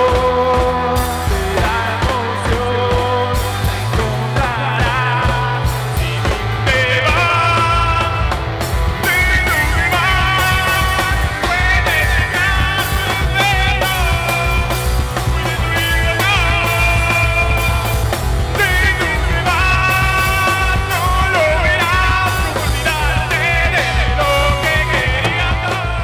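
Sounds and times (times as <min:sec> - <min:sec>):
rock band playing loud: 0:00.0 - 0:26.0.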